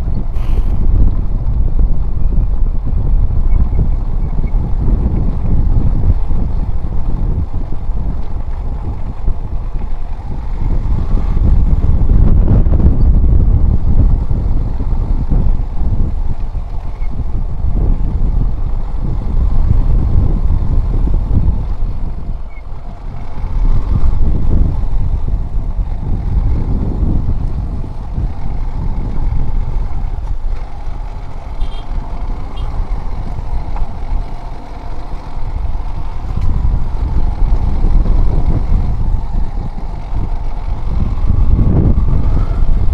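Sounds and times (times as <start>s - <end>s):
heavy low rumble: 0.0s - 42.9s
motorcycle engine: 0.0s - 42.9s
road noise: 0.0s - 42.9s.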